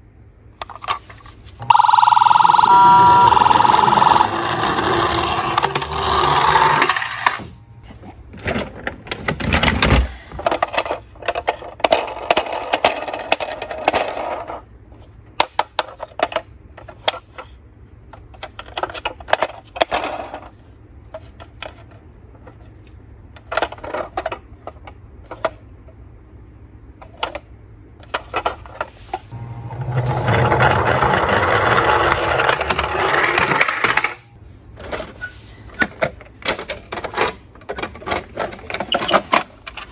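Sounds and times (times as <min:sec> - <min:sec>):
plastic toy cars rattling: 0:00.6 - 0:07.5, 0:08.3 - 0:25.7, 0:27.0 - 0:34.2, 0:34.8 - 0:39.9.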